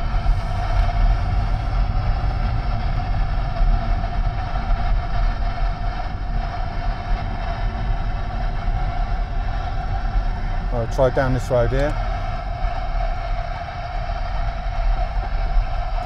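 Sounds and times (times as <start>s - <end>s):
mid-pitched hum: 0.0s - 16.0s
road and engine rumble: 0.0s - 16.0s.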